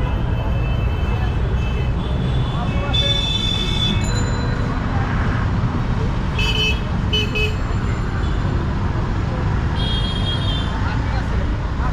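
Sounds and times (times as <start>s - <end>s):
street traffic rumble: 0.0s - 11.9s.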